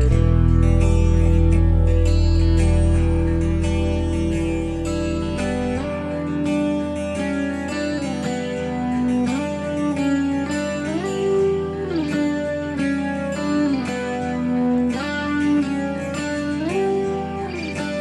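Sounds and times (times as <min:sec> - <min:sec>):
guitar instrumental music: 0:00.0 - 0:18.0.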